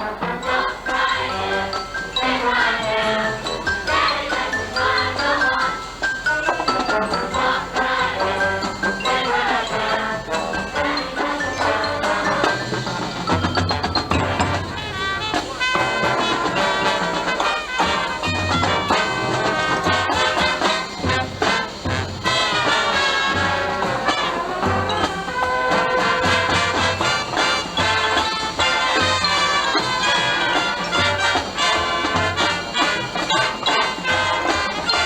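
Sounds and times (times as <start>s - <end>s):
brass melody: 0.0s - 35.0s
drums: 0.0s - 35.0s
marching band playing: 0.0s - 35.0s.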